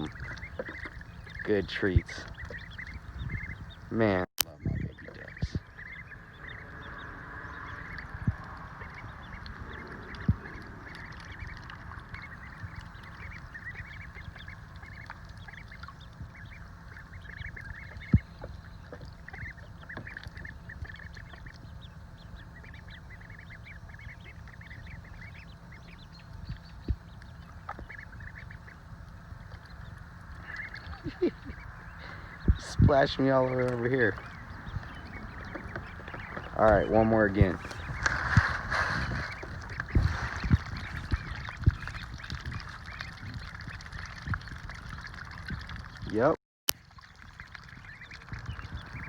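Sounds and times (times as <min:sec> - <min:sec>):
steady low rumble: 0:00.0 - 0:46.2, 0:46.8 - 0:49.0
ducklings peeping: 0:00.0 - 0:49.0.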